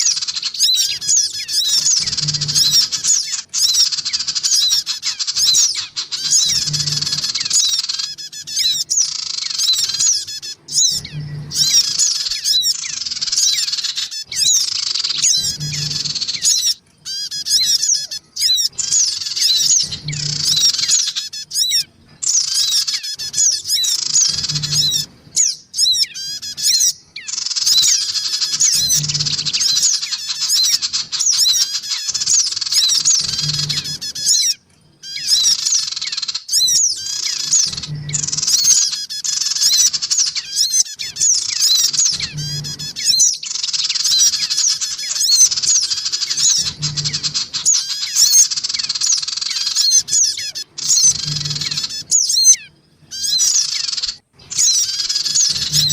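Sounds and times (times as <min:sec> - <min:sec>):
sunbirds chattering: 0:00.0 - 0:55.9.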